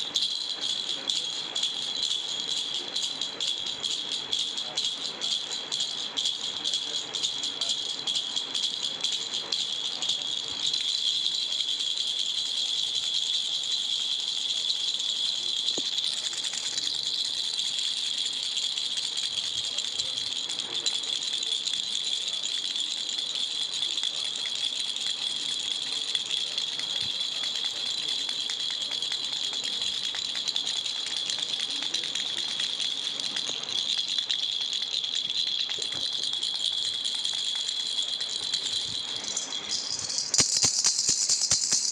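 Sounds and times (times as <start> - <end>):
baby rattle shaking: 0.0 - 41.9.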